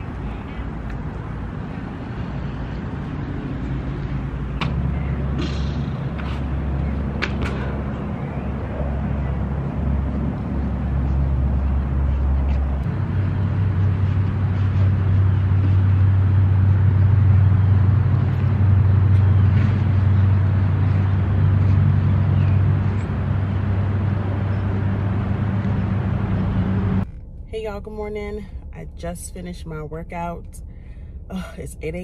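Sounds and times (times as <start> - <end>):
low hum and rumble with hiss: 0.0 - 32.0.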